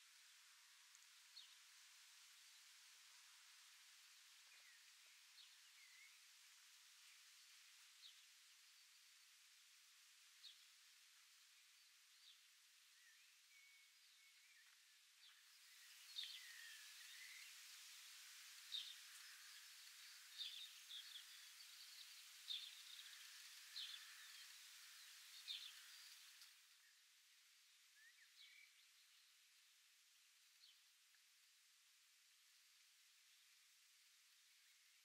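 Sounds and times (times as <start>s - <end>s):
soft hiss: 0.0s - 35.0s.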